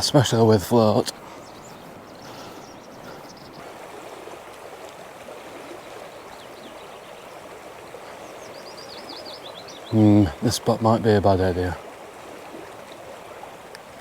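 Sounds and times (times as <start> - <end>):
rush of running water: 0.0 - 14.0.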